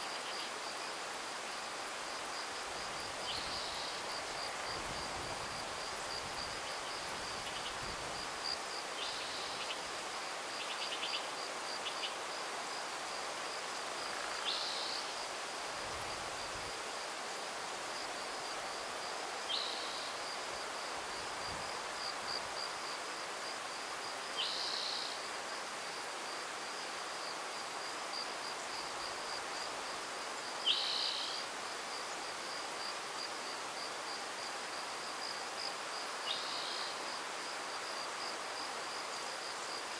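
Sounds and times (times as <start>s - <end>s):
soft hiss of outdoor air: 0.0s - 39.9s.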